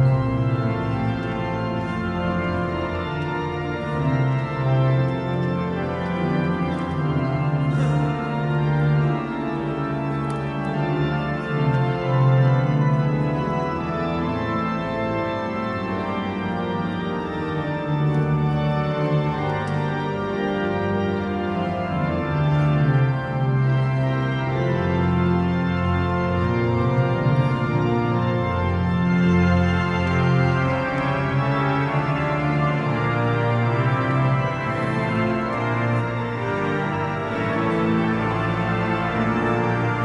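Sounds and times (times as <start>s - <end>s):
church organ playing chords: 0.0s - 40.0s.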